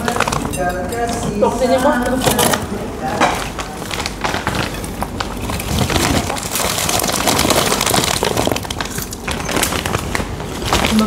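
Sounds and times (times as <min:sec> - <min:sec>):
plastic bag crumpling: 0:00.0 - 0:00.6, 0:02.2 - 0:11.0.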